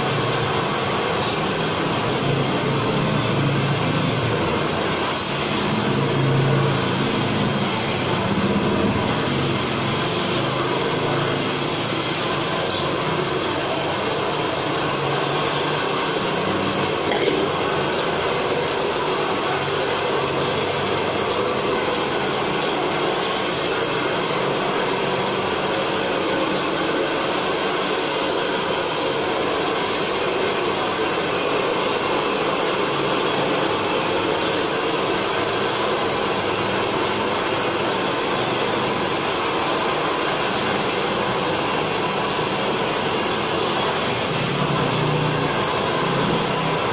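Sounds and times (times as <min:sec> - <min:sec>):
blower rushing air: 0:00.0 - 0:46.9.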